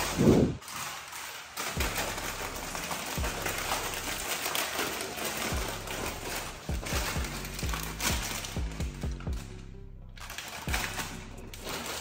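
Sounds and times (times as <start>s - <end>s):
foil snack bags crinkling: 0.0s - 9.6s, 10.2s - 12.0s.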